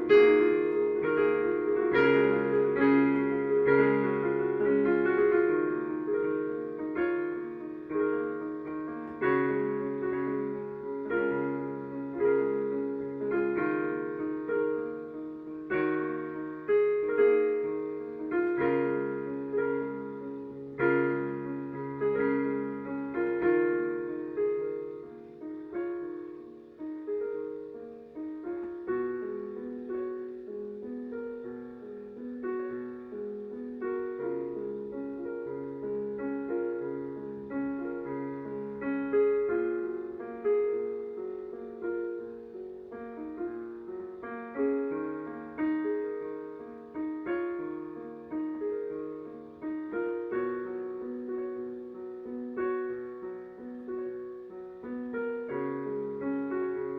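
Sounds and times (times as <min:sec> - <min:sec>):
slow solo piano piece: 0:00.0 - 0:56.9.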